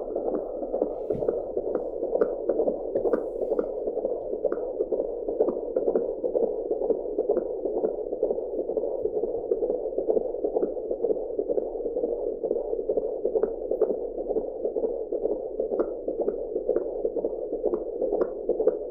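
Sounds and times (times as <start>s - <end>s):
fetal heartbeat whooshing pulse: 0.0s - 18.9s.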